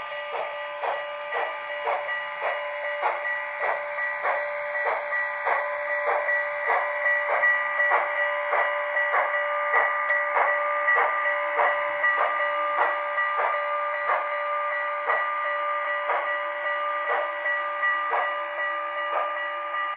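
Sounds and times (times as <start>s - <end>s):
model steam locomotive chuffs: 0.0s - 19.9s
steady whine: 0.0s - 19.9s.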